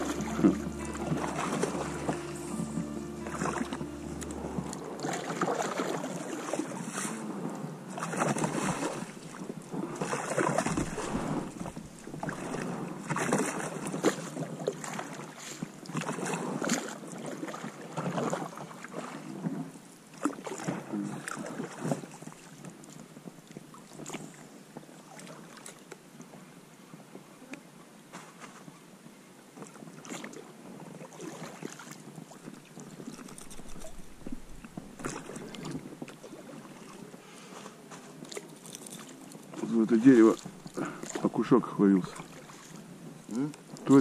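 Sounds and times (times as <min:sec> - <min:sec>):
oars splashing in water: 0:00.0 - 0:26.0, 0:29.6 - 0:44.0.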